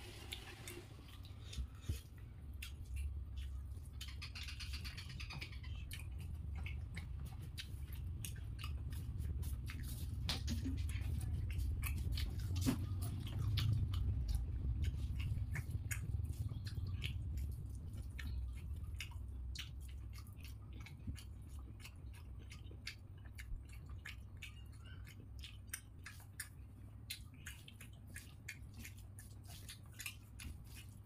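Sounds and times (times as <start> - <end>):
low steady hum: 0.0 - 31.0
wet chewing and mouth clicks: 0.0 - 31.0
fingers squishing rice: 0.1 - 31.0.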